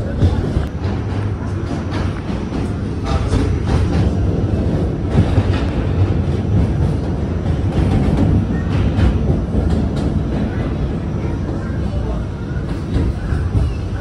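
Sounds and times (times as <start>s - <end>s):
track clacks: 0.0s - 14.0s
train wheels rumbling on rails: 0.0s - 14.0s.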